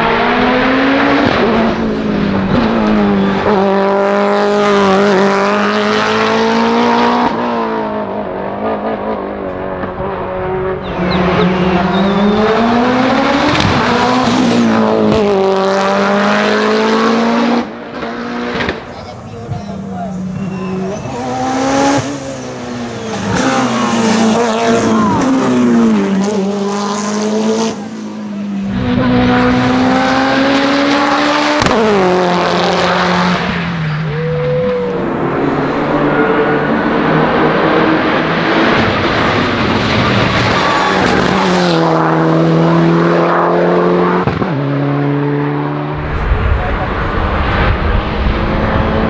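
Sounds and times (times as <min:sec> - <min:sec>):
race car engine at full throttle: 0:00.0 - 0:49.0.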